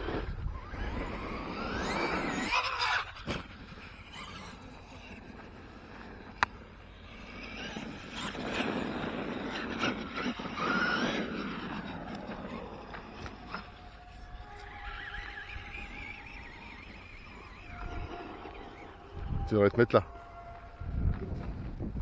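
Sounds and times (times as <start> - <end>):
rc truck motors whining: 0.0 - 22.0.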